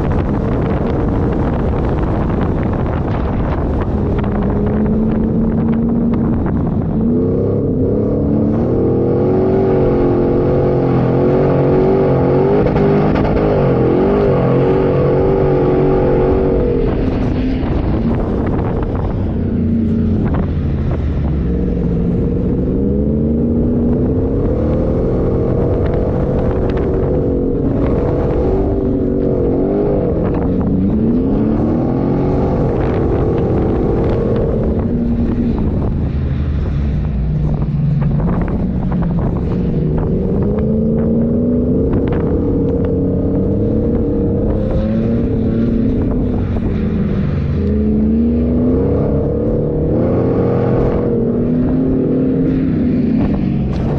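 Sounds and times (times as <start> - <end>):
engine revving up and down: 0.0 - 53.9.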